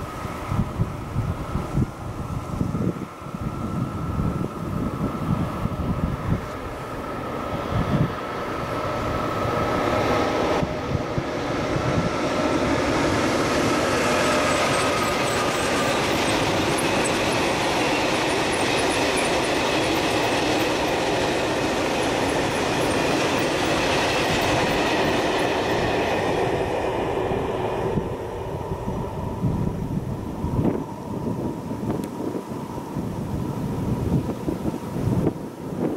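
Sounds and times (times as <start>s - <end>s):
freight train passing: 0.0s - 35.9s.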